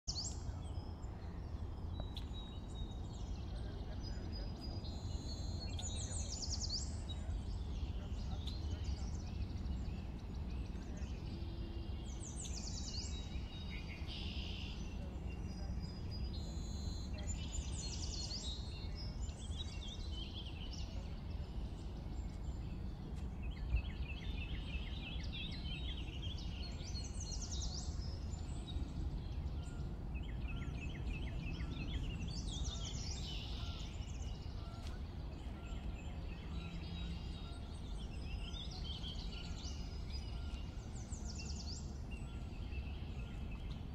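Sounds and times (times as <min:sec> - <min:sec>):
birds chirping and trilling: 0:00.1 - 0:43.9
steady low rumble: 0:00.2 - 0:43.9.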